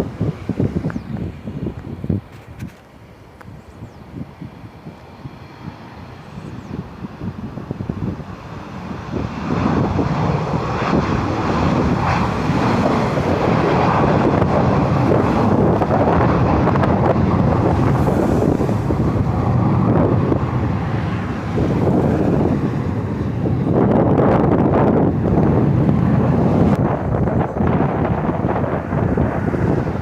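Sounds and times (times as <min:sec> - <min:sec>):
jet engines rushing: 0:00.0 - 0:30.0
wind buffeting microphone: 0:00.0 - 0:30.0.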